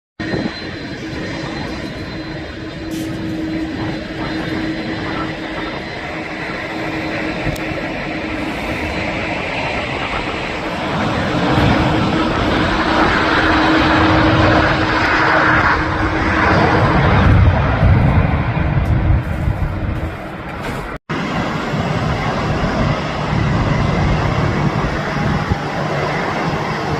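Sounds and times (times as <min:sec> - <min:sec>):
jet engines rushing: 0:00.2 - 0:26.9.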